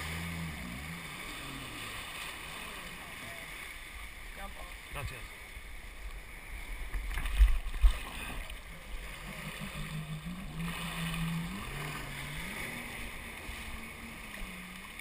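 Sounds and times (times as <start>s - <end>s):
jet ski engine running: 0.0s - 15.0s
water wash: 0.0s - 15.0s.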